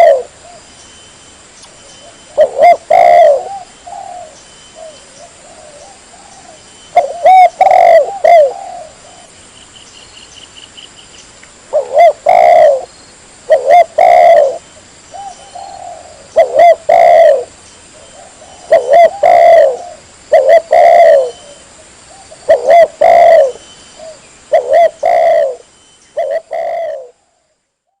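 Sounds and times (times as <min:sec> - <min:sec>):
dove cooing: 0:00.0 - 0:00.6, 0:02.0 - 0:09.3, 0:11.7 - 0:12.9, 0:13.5 - 0:25.6, 0:26.2 - 0:27.5.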